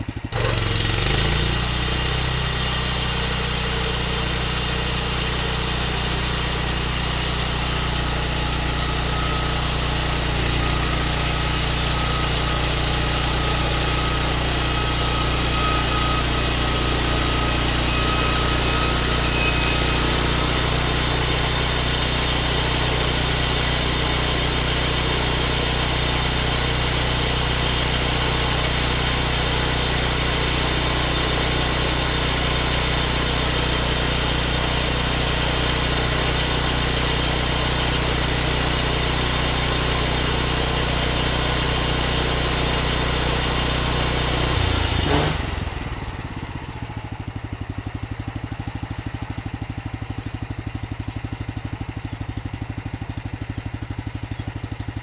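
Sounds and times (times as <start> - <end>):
sawmill engine running: 0.0 - 55.0
saw blade hissing through wood: 0.4 - 45.7.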